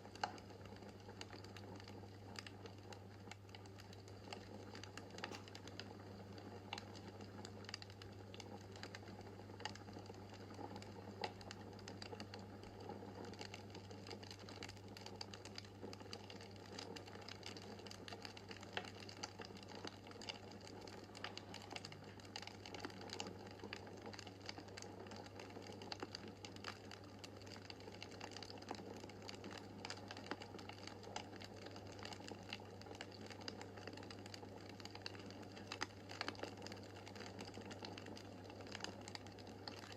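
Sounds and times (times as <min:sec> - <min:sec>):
low steady hum: 0:00.0 - 0:39.9
wood fire crackling: 0:00.0 - 0:39.9.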